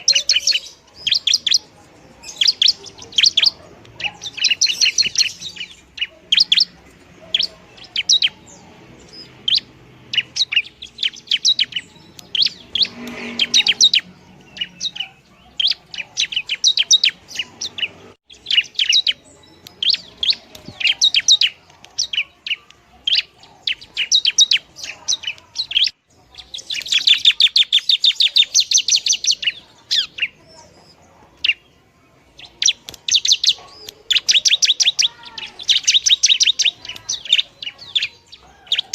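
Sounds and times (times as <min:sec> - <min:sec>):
bird chattering: 0:00.0 - 0:38.9
bird singing sharp high chirps: 0:00.0 - 0:38.9.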